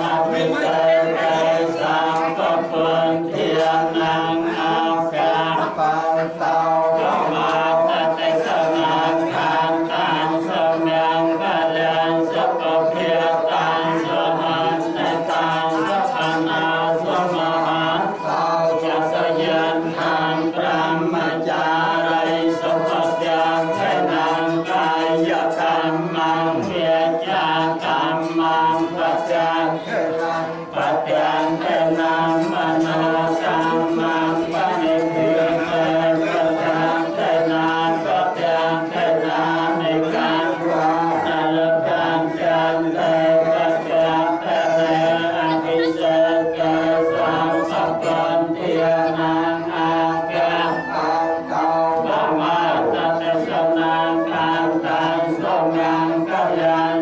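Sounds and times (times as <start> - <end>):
voices chanting together: 0.0 - 57.0.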